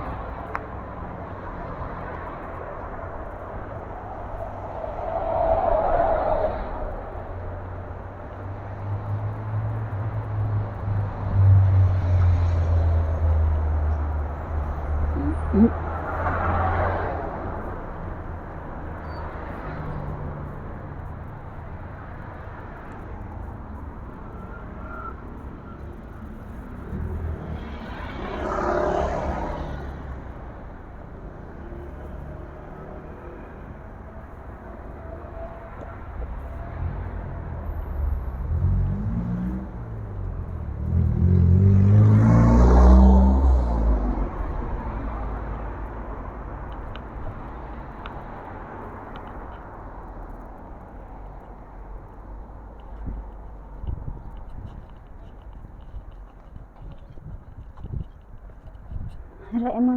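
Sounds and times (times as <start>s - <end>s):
vehicles passing by: 0.0s - 59.9s.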